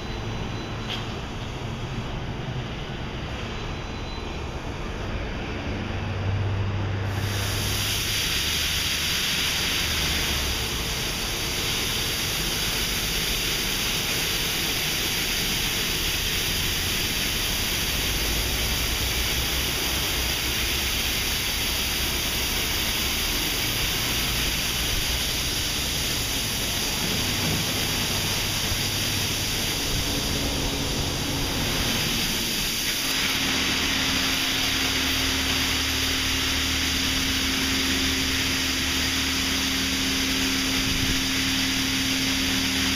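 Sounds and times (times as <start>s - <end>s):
water spray hissing on car: 7.0s - 42.9s.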